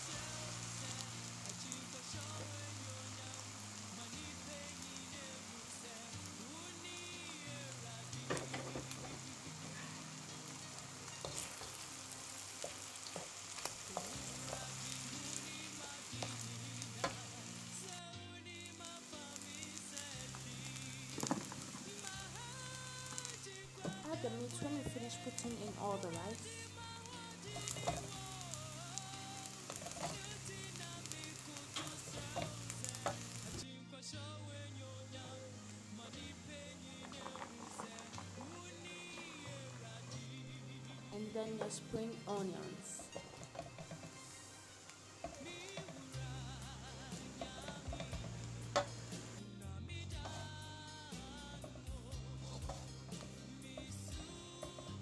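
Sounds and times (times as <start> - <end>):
spatula scraping and knocking pan: 0.0 - 18.0, 19.0 - 33.6, 35.6 - 49.4, 50.2 - 55.0
rice sizzling in a pan: 0.0 - 55.0.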